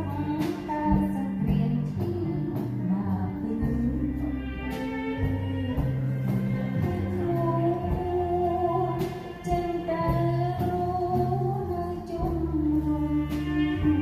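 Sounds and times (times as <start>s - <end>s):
band on keyboard and guitar: 0.0s - 14.0s
woman singing: 0.0s - 14.0s.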